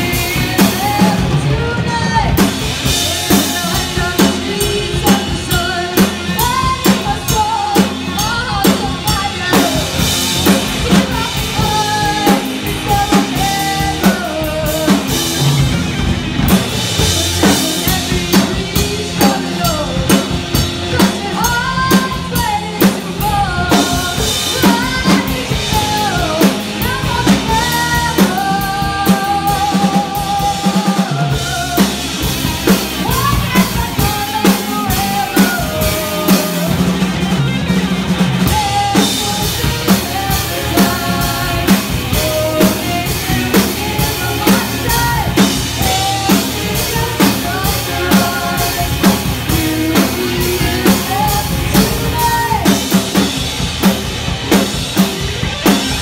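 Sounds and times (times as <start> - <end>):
bass guitar: 0.0 - 56.0
drum kit beat: 0.0 - 56.0
electric guitars: 0.0 - 56.0
lead and backing vocals: 0.0 - 56.0.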